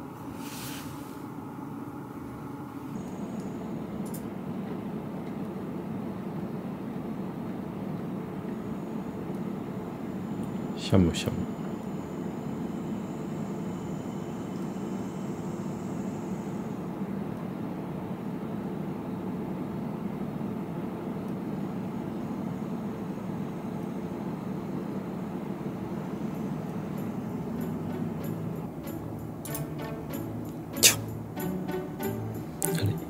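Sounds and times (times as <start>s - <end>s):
room heater whirring: 0.0s - 33.0s.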